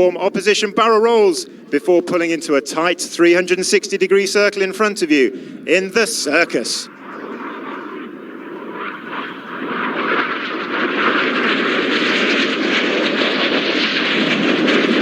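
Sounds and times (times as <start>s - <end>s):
jet aircraft flying low past: 0.0s - 15.0s.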